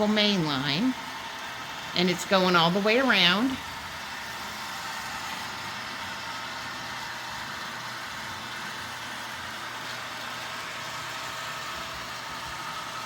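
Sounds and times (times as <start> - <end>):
model train running: 0.0 - 13.0.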